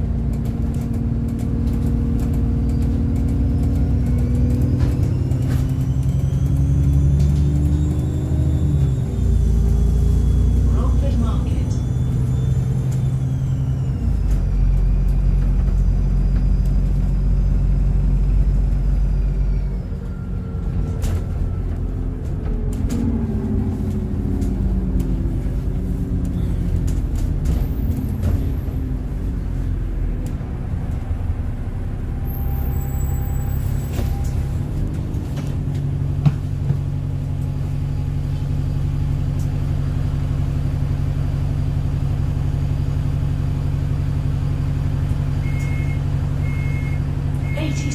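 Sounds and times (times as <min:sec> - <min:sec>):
bus diesel engine rumbling: 0:00.0 - 0:47.9.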